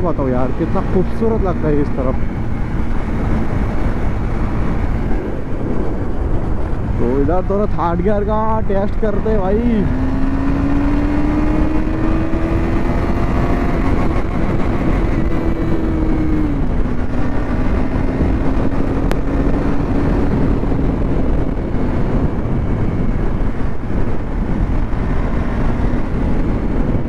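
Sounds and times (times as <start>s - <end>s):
motorcycle engine accelerating: 0.0s - 7.6s, 8.7s - 27.0s.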